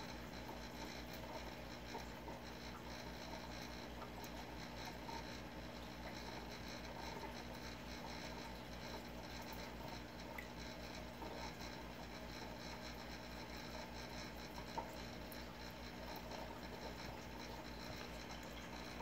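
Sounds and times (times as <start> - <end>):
aquarium equipment hum and water: 0.0 - 19.0.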